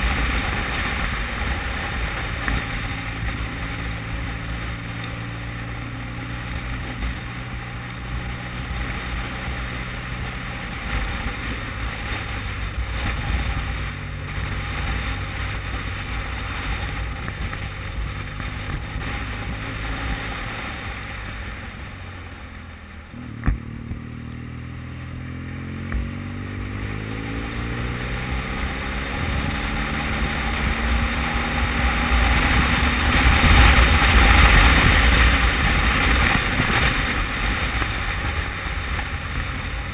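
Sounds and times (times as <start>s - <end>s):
motorcycle engine cruising: 0.0s - 39.9s
tyres on wet road: 0.0s - 39.9s
wind noise: 0.0s - 39.9s.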